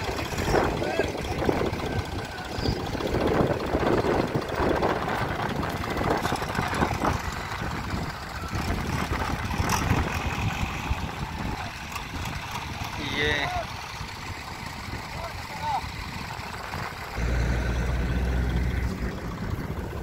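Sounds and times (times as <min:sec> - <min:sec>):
tractor engines clattering: 0:00.0 - 0:20.0.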